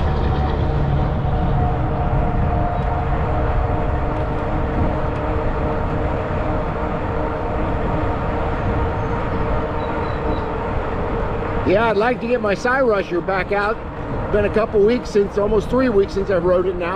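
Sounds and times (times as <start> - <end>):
e-bike motor hum and whine: 0.0 - 16.9
wind rumbling on microphone: 0.0 - 16.9.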